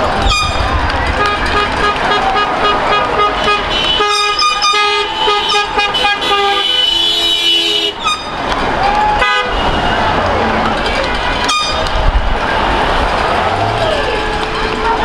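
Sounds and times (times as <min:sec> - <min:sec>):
car horns honking: 0:00.0 - 0:15.0
traffic rumble: 0:00.0 - 0:15.0.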